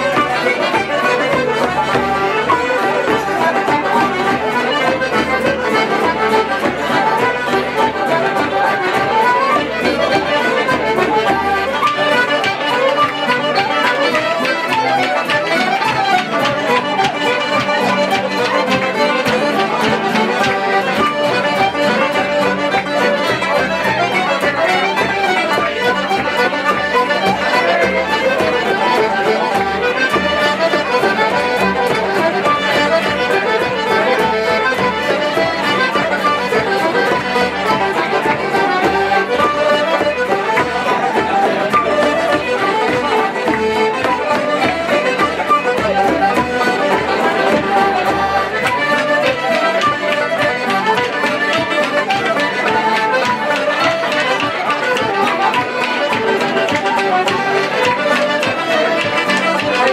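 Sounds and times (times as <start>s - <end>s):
banjo: 0.0s - 59.9s
button accordion: 0.0s - 59.9s
fiddle: 0.0s - 59.9s
keyboard: 0.0s - 59.9s
wooden flute: 0.0s - 59.9s.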